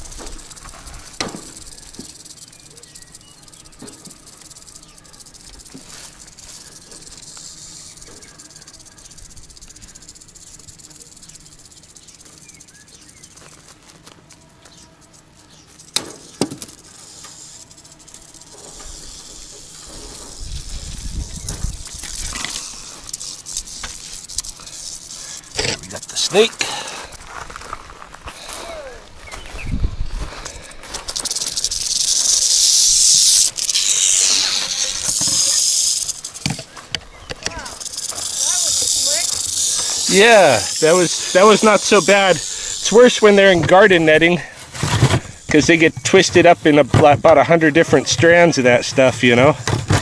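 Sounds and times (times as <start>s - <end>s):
rattlesnake rattling: 0.0s - 27.8s, 29.6s - 50.0s.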